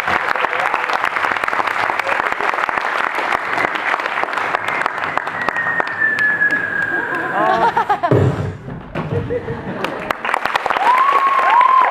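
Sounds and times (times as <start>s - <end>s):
crowd applause: 0.0s - 8.1s, 9.3s - 11.9s.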